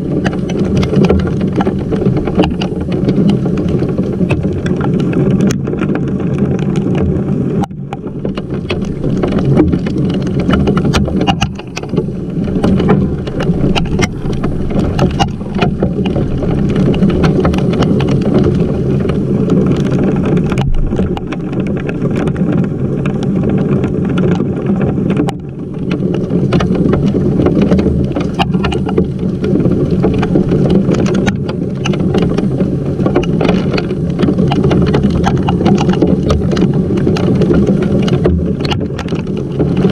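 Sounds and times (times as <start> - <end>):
heavy rain and hail: 0.0 - 39.9.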